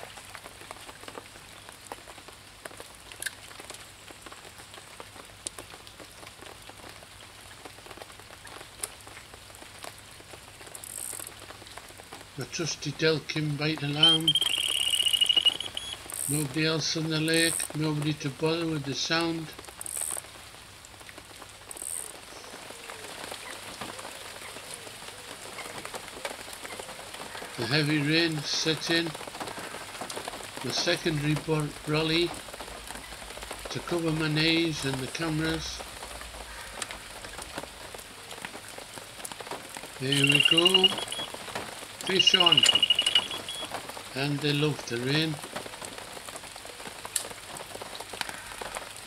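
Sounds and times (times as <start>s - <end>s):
steady rain pattering: 0.0s - 49.0s.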